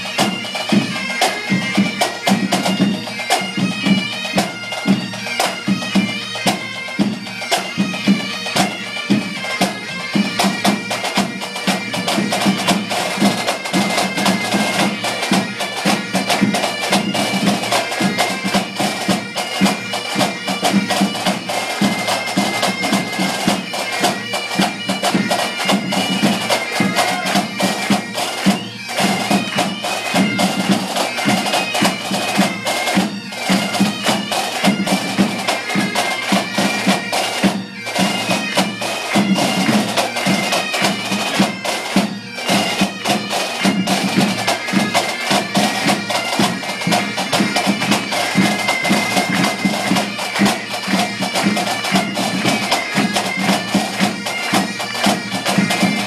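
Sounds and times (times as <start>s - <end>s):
bagpipes playing melody: 0.0s - 56.0s
bass and tenor drums beating: 0.0s - 56.0s.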